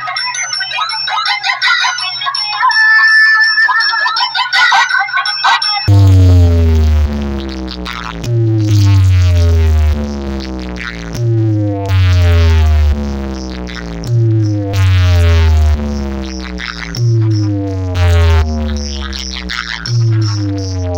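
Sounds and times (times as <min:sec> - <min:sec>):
loud electronic dance music: 0:02.5 - 0:20.9.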